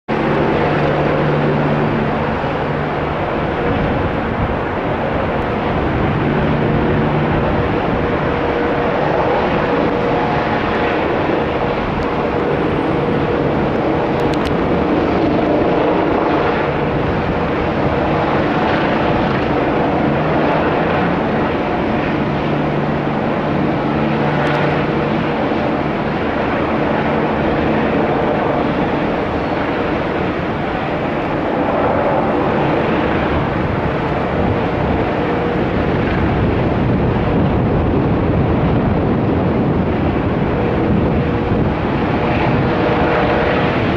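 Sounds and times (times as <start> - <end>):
helicopter rotor and turbine noise: 0.0 - 43.9.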